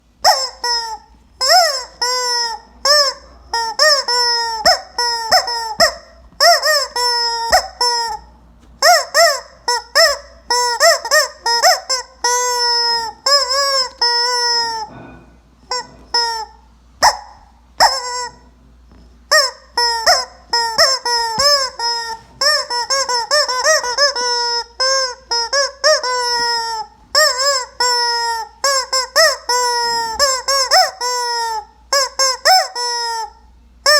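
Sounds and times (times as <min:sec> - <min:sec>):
rubber chicken toy squawking: 0:00.2 - 0:15.0, 0:15.6 - 0:33.9.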